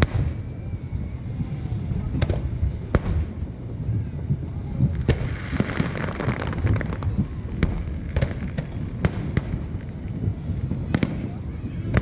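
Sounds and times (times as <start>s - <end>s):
fireworks bangs: 0.0s - 12.0s
fireworks crackling: 0.0s - 12.0s
low rumble: 0.0s - 12.0s.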